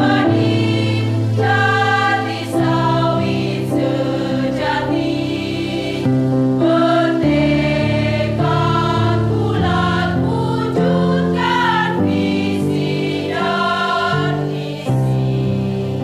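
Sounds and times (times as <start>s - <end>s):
women's choir singing: 0.0s - 16.0s.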